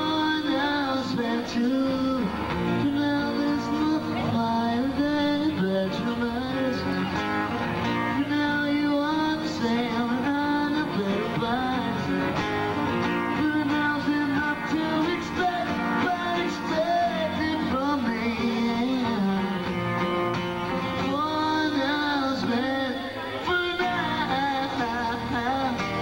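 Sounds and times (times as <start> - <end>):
person singing: 0.0 - 26.0
strummed acoustic guitar: 0.0 - 26.0.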